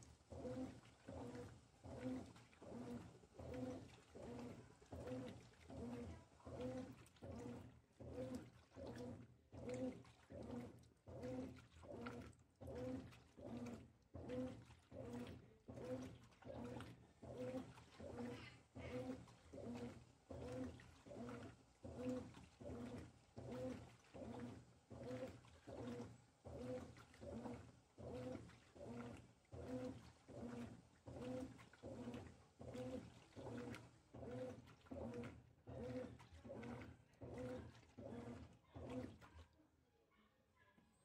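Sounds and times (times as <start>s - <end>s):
washing machine motor hum: 0.0s - 39.5s
water sloshing in drum: 0.0s - 39.6s.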